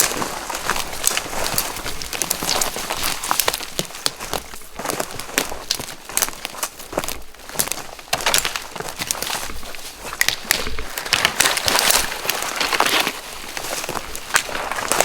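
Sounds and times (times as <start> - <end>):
footsteps in dry vegetation: 0.0 - 15.0.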